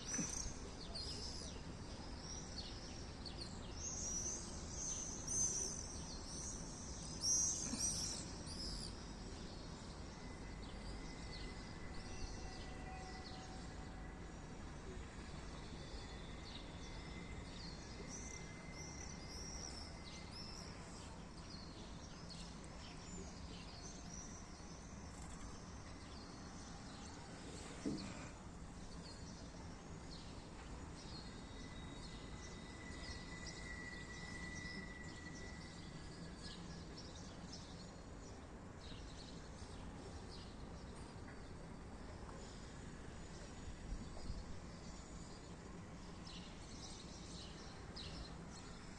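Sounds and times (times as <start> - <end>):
low background noise: 0.0 - 48.9.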